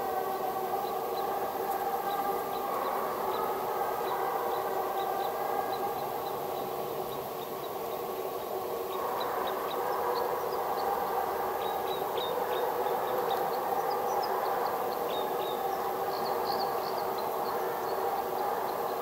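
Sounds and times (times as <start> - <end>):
distant hounds baying: 0.0 - 19.0.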